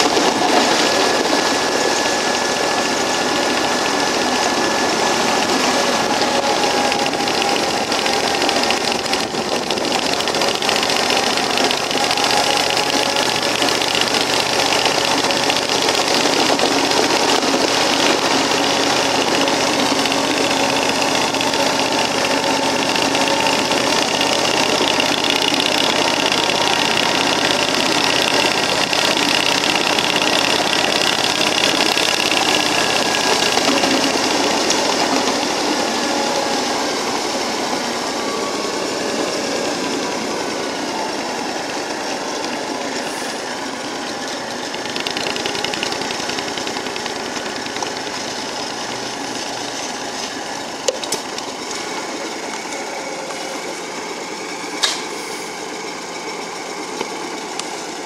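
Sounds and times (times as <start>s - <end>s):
petrol engine running: 0.0s - 58.0s.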